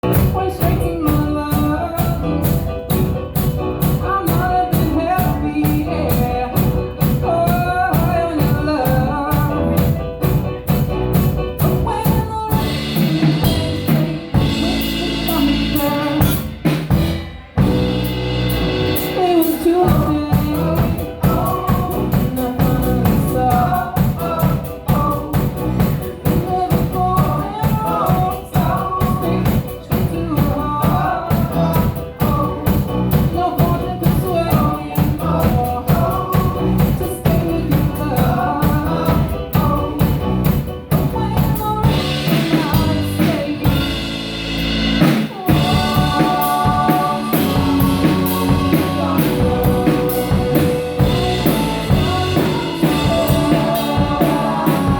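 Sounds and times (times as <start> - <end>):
band song with singing: 0.0 - 54.9
drum kit beat: 0.0 - 54.9.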